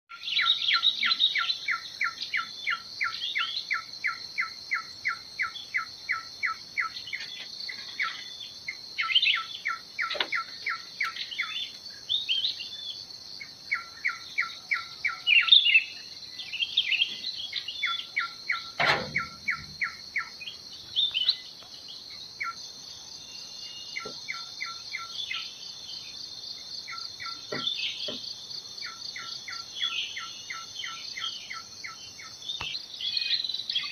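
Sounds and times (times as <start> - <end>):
birds singing and chirping: 0.1 - 33.9
insects droning: 0.1 - 33.9.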